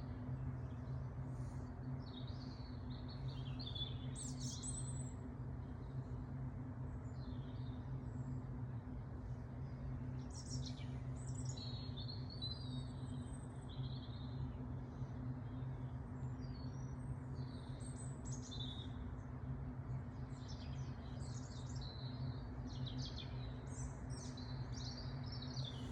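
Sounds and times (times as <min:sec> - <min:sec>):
steady low hum: 0:00.0 - 0:25.9
songbirds warbling and chirping: 0:00.1 - 0:25.9.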